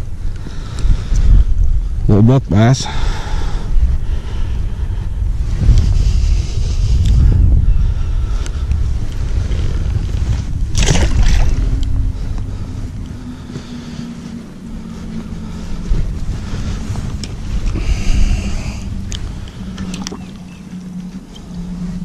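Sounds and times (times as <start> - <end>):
faint low hum: 0.0 - 22.0
wind buffeting microphone: 0.0 - 22.0.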